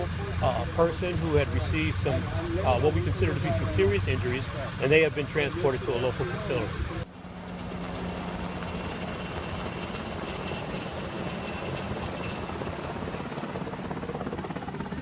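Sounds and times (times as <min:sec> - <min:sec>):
helicopter rotor chopping: 0:00.0 - 0:15.0.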